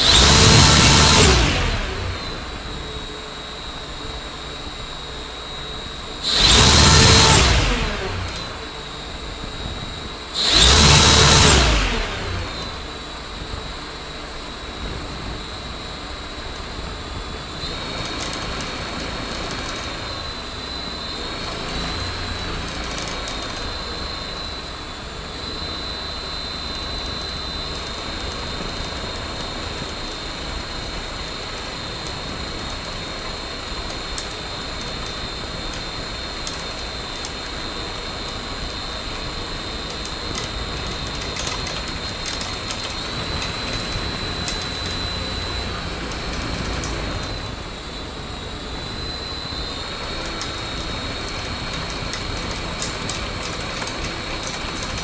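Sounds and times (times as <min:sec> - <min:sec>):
motor spinning propeller whine: 0:00.0 - 0:55.0.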